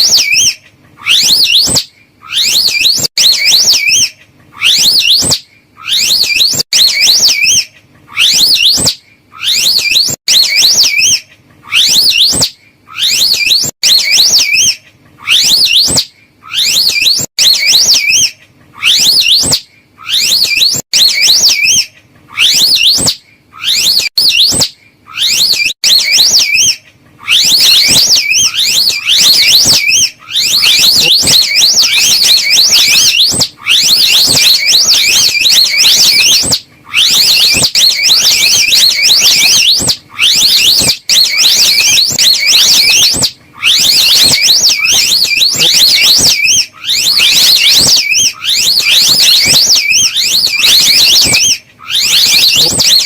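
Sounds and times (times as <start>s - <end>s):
slow loris warbling call: 0.1s - 53.0s.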